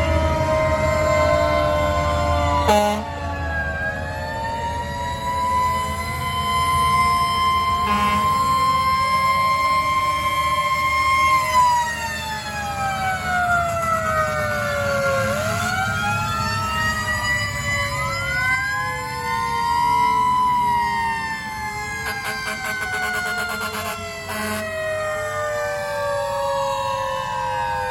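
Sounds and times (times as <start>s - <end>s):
fire truck siren wailing: 0.0s - 27.9s
second siren glide: 0.0s - 27.9s
truck engine rumbling: 0.0s - 27.9s.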